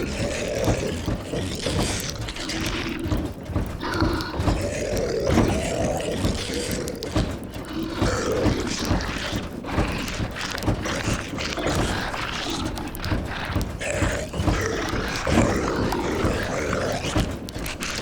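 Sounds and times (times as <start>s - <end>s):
rattling knocks and creaks: 0.0s - 18.0s
zombie moaning and growling: 0.0s - 18.0s.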